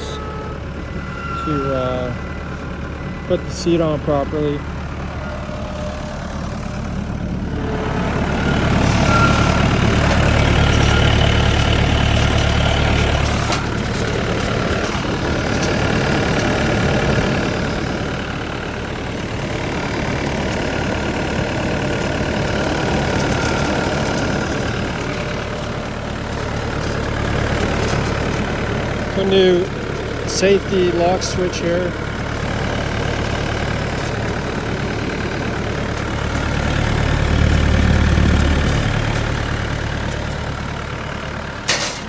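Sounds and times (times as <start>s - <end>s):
skid steer engine running: 0.0s - 42.0s.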